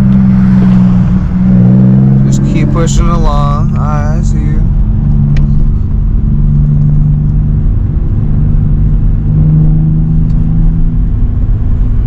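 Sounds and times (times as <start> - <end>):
car engine droning at low revs: 0.0 - 12.0.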